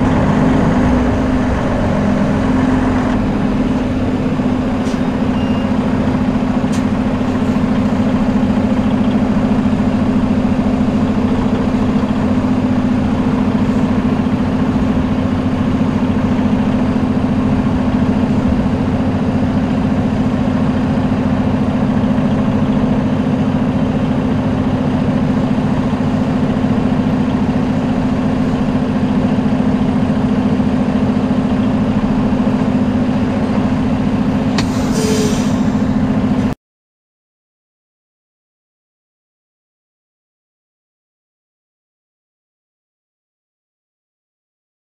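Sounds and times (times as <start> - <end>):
truck diesel engine droning: 0.0 - 36.6.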